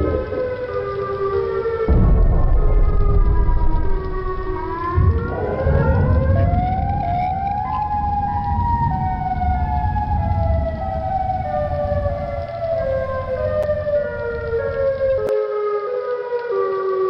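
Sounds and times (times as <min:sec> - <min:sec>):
steady low rumble: 0:00.0 - 0:15.3
warning sirens wailing: 0:00.0 - 0:17.0.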